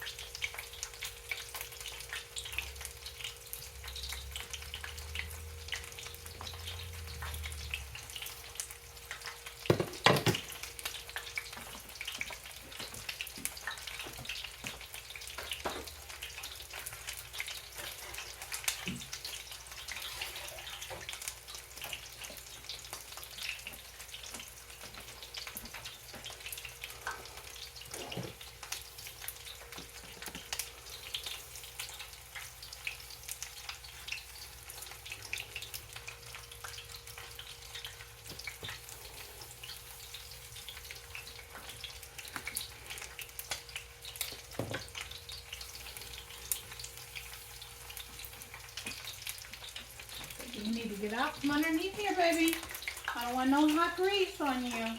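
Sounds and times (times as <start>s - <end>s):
chicken frying in hot oil: 0.0s - 54.9s.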